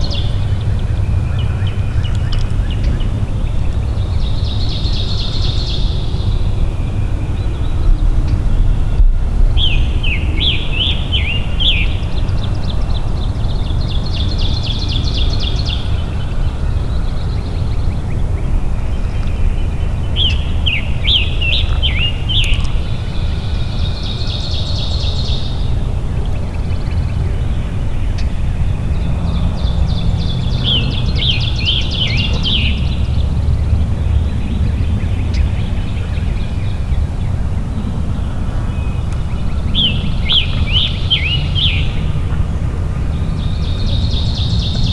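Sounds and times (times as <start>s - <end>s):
songbirds singing: 0.0s - 44.9s
steady low rumble: 0.0s - 44.9s.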